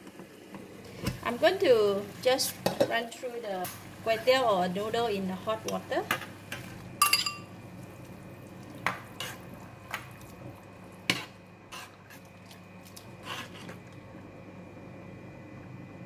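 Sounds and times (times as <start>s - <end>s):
boiling water hiss: 0.0s - 16.0s.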